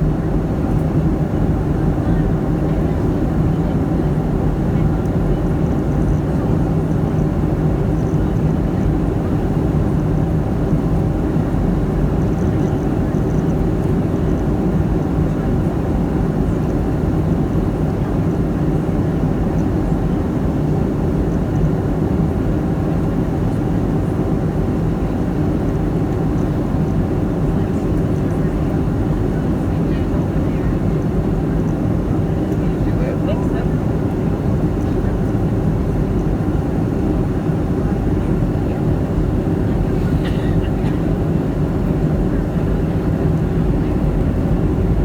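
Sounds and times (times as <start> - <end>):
aircraft cabin engine roar: 0.0 - 45.0.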